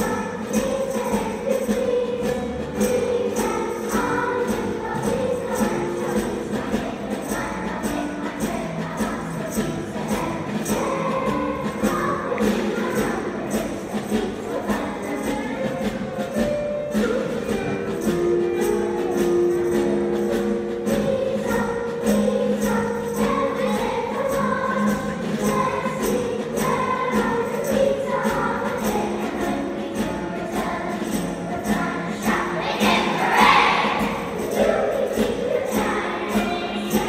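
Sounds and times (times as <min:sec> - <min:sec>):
children's choir singing: 0:00.0 - 0:37.0
percussion beat: 0:00.0 - 0:37.0.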